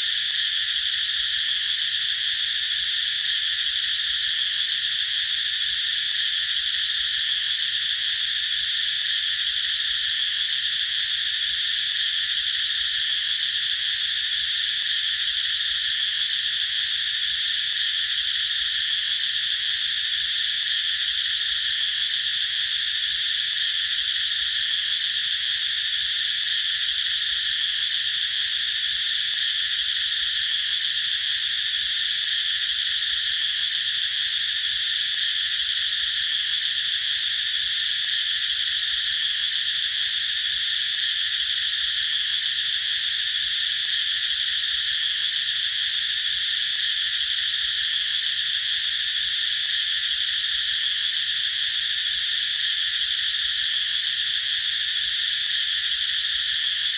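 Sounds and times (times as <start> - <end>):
cicadas droning: 0.0 - 56.9.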